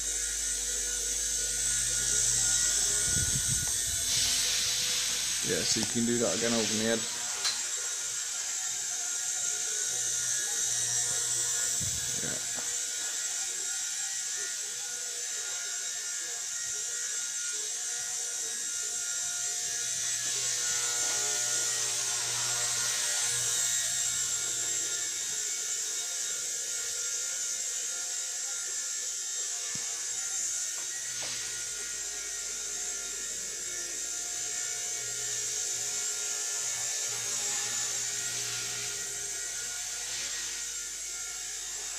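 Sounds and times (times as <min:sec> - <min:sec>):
rc helicopter motor whining: 0:00.0 - 0:41.9.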